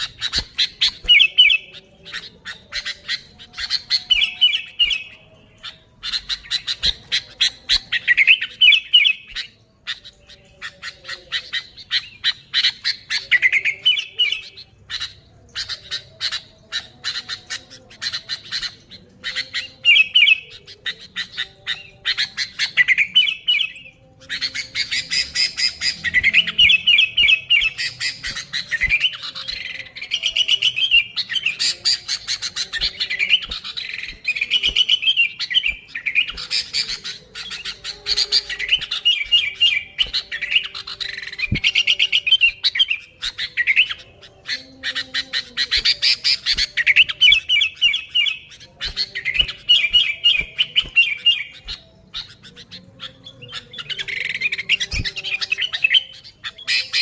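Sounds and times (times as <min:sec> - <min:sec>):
bulbuls chattering: 0:00.0 - 0:57.0.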